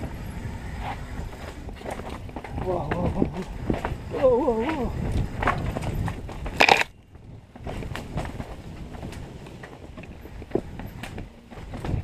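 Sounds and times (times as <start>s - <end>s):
mountain bike rattling over rocks: 0.0s - 12.0s.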